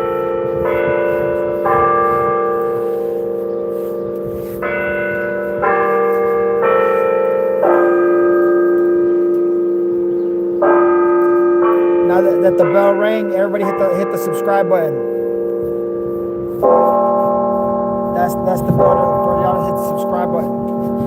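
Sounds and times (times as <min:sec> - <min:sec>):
loud church bell ringing: 0:00.0 - 0:21.0.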